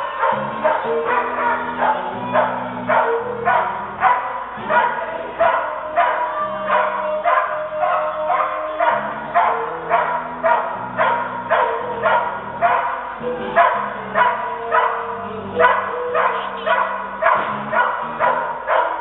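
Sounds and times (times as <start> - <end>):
dog barking: 0.0 - 19.0
music playing: 0.0 - 19.0.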